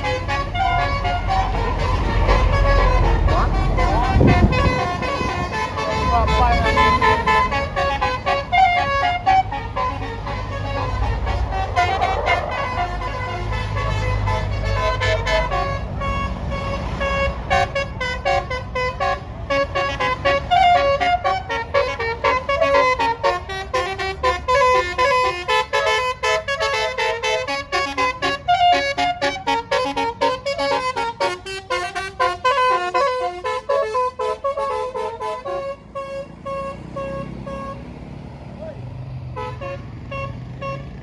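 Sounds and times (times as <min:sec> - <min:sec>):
musical air horn melody: 0:00.0 - 0:37.9, 0:39.4 - 0:41.0
bus engine rumbling: 0:00.0 - 0:41.0.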